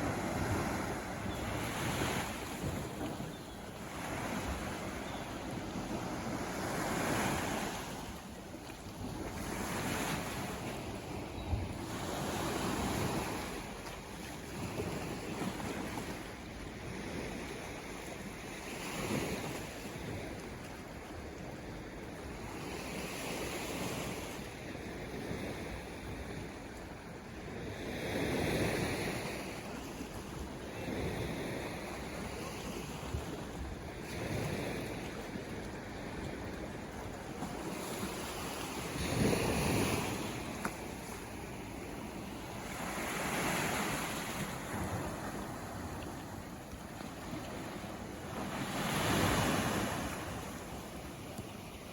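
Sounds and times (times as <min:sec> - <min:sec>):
ocean waves breaking: 0:00.0 - 0:19.8, 0:27.9 - 0:51.9.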